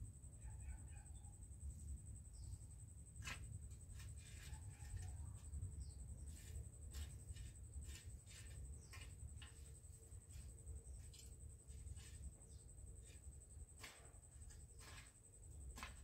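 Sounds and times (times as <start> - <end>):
garden hoe scraping dry soil: 3.1 - 16.0.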